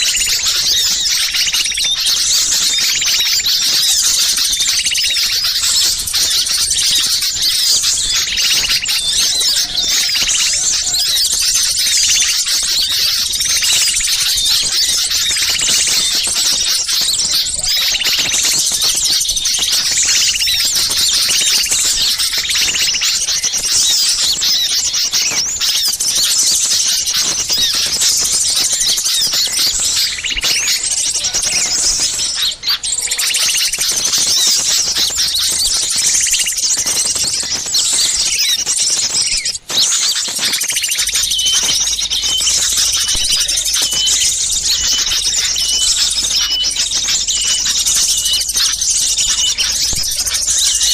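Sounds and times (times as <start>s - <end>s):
rapidly repeated bird note: 0.0s - 50.9s
songbirds alarm calling: 0.0s - 50.9s.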